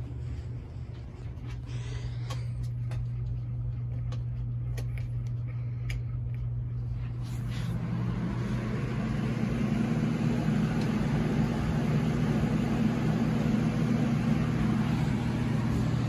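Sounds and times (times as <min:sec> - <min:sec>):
fan blades rushing: 0:00.0 - 0:16.0
steady low hum: 0:00.0 - 0:16.0.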